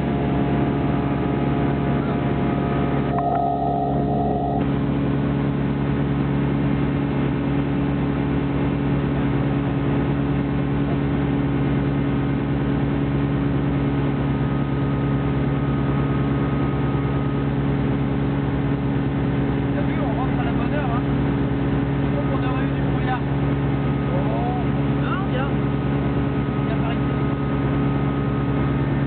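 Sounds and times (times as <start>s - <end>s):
propeller engine droning: 0.0s - 29.0s.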